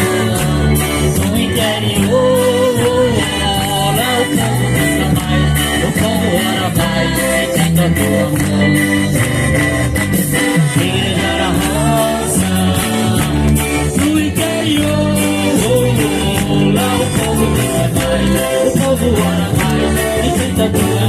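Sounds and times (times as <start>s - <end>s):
guitar: 0.0s - 21.0s
lead voice singing: 0.0s - 21.0s
steady beat: 0.0s - 21.0s
worship band playing: 0.0s - 21.0s.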